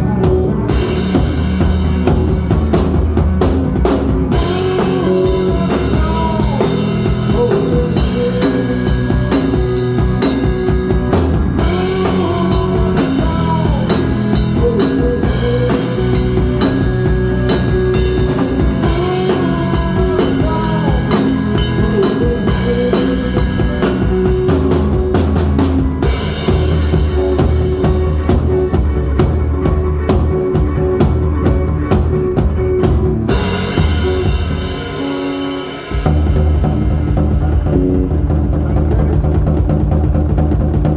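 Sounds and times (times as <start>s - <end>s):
electric lead guitar bending notes: 0.0s - 38.6s
bass guitar: 0.0s - 40.9s
drum kit: 0.0s - 40.9s.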